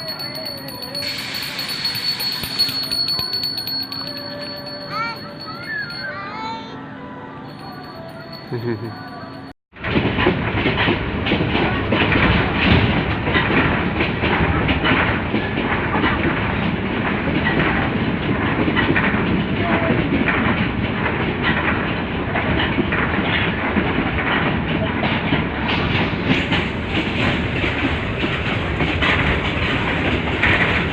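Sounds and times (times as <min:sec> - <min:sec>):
train wheels clattering over rails: 0:00.0 - 0:04.8, 0:09.8 - 0:30.9.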